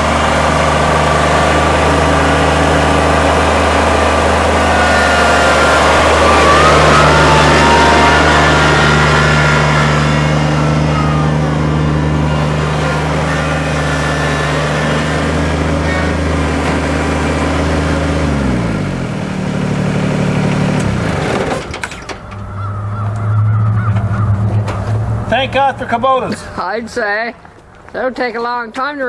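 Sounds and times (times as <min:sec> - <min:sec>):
tractor diesel engine running: 0:00.0 - 0:28.1.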